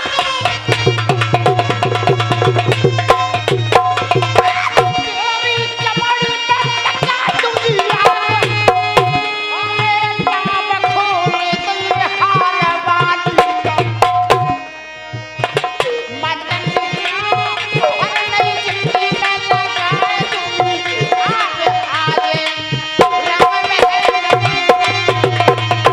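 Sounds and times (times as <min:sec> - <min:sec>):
hand drum rhythm: 0:00.0 - 0:14.7, 0:15.4 - 0:25.9
ornamented instrumental melody: 0:00.0 - 0:23.6.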